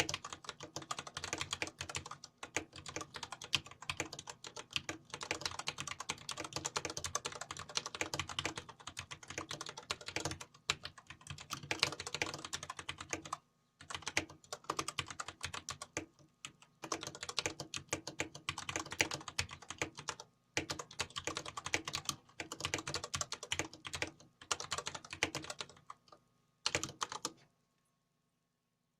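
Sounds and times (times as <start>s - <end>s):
fast mechanical keyboard typing: 0.0s - 27.4s.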